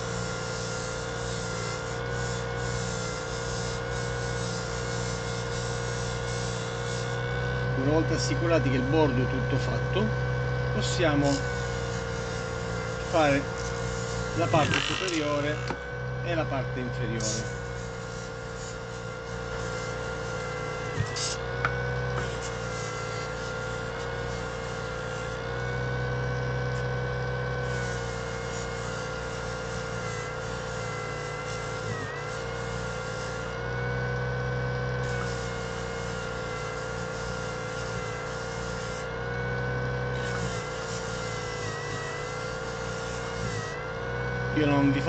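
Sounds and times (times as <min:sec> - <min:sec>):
gritty sanding hiss: 0:00.0 - 0:10.1, 0:10.8 - 0:33.7, 0:34.8 - 0:45.0
disc sander motor whine: 0:00.0 - 0:45.0.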